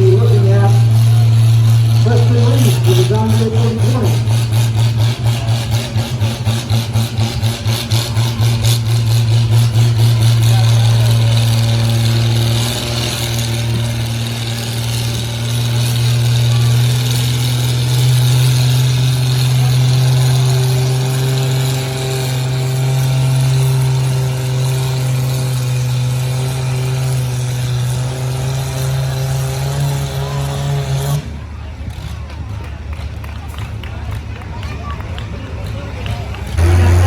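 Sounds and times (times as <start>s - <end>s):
tractor engine working hard: 0.0s - 37.0s.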